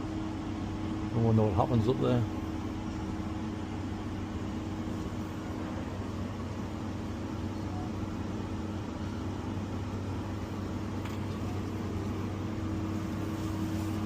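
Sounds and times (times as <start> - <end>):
vending machine cooling hum: 0.0 - 14.0.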